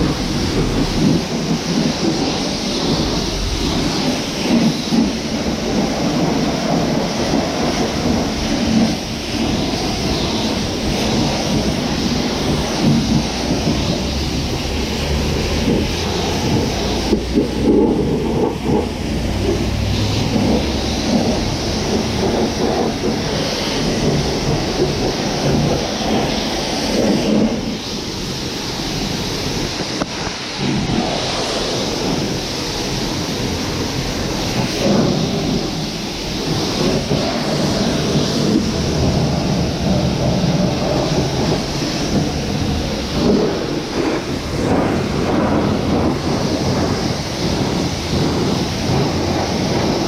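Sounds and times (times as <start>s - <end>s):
steady hiss: 0.0s - 50.0s
vehicle road and engine rumble: 0.0s - 50.0s.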